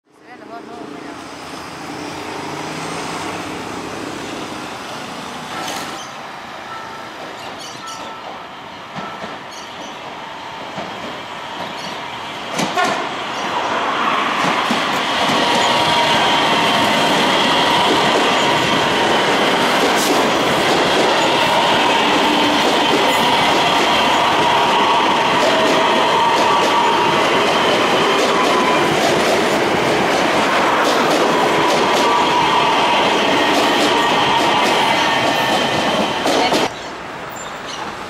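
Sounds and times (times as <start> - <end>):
train passing: 0.2 - 38.0.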